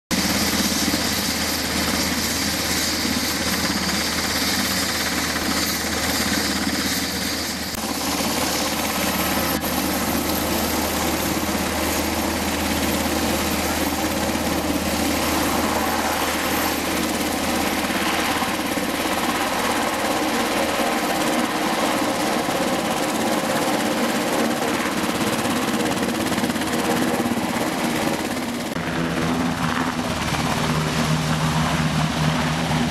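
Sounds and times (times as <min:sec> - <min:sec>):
helicopter rotors beating: 0:00.1 - 0:32.9
turboshaft engines: 0:00.1 - 0:32.9.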